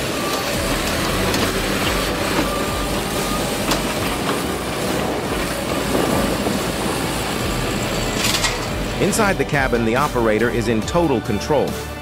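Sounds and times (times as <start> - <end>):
heavy machinery rumble and clatter: 0.0 - 11.1.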